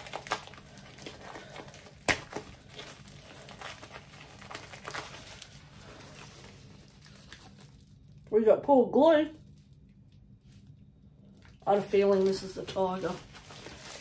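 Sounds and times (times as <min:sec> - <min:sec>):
plastic mailer bag crinkling: 0:00.0 - 0:08.3, 0:10.4 - 0:14.0.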